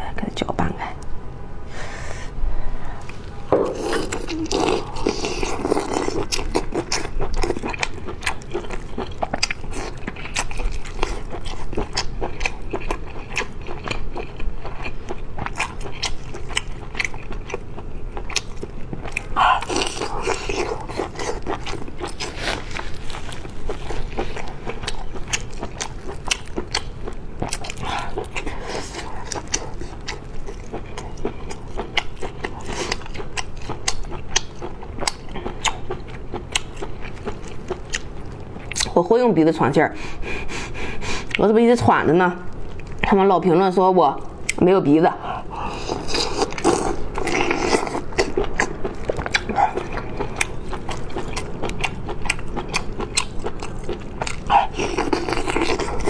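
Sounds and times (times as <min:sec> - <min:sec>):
person chewing and crunching: 0:03.0 - 0:39.0, 0:42.5 - 0:43.2, 0:45.2 - 0:56.0.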